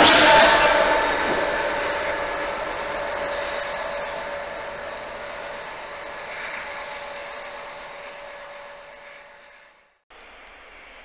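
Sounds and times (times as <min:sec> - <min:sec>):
locomotive engine receding: 0:00.0 - 0:09.8.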